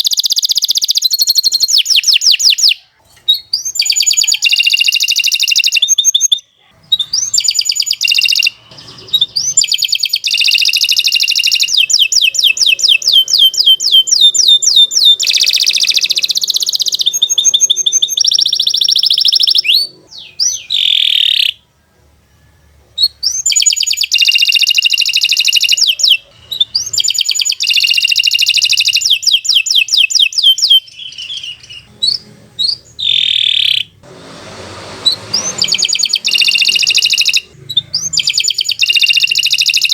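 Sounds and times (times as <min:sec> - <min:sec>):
canary singing trills: 0:00.0 - 0:21.8, 0:22.8 - 0:34.1, 0:35.0 - 0:39.9.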